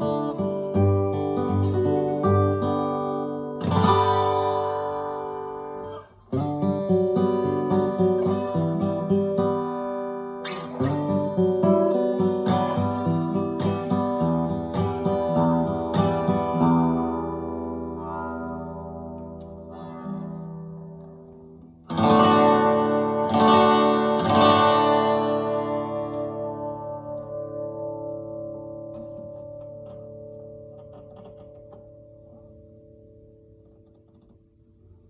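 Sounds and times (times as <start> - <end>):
acoustic guitar picking and strumming: 0.0 - 35.0.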